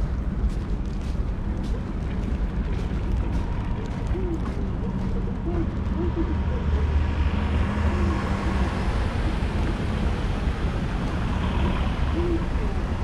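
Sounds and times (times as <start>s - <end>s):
steady low rumble: 0.0s - 13.0s
cars driving past on slush: 1.9s - 13.0s.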